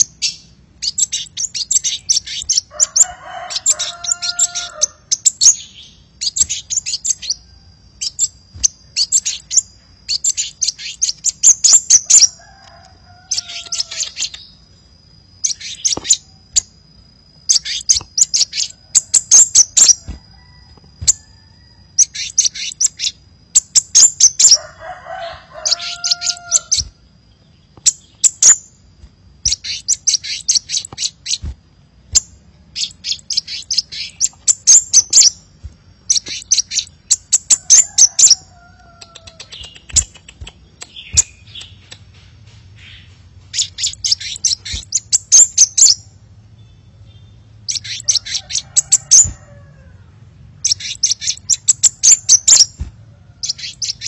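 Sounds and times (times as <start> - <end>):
bird song: 0.0 - 54.0.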